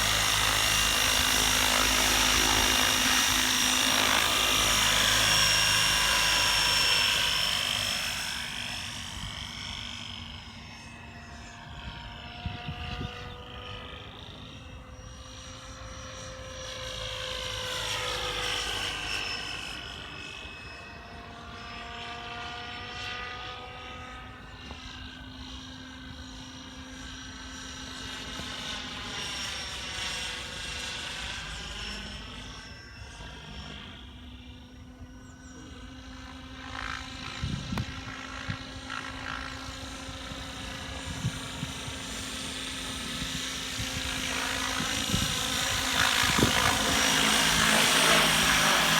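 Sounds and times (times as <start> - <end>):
rc helicopter motor whine: 0.0 - 48.9.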